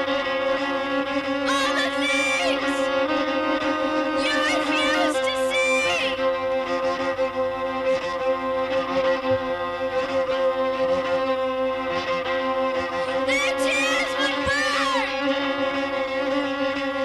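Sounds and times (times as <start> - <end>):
drone music with sustained tones: 0.0 - 17.0.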